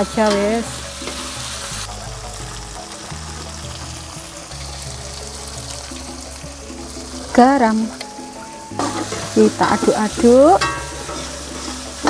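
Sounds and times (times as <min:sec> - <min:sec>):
background music with bass: 0:00.0 - 0:12.0
vegetables sizzling in oil: 0:00.0 - 0:12.0.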